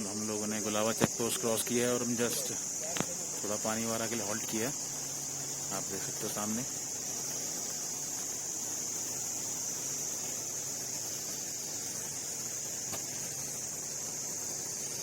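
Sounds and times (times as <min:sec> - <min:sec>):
insect chorus shrilling: 0:00.0 - 0:15.0.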